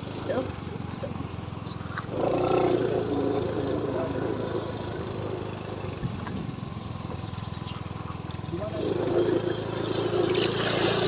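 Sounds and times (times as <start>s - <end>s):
voices talking: 0.0s - 10.9s
vehicle engine humming: 0.0s - 11.0s.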